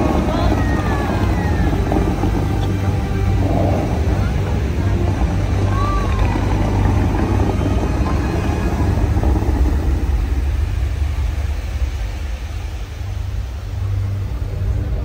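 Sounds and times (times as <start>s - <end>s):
deep steady rumble: 0.0s - 15.0s
fountain water jets rushing: 0.0s - 15.0s.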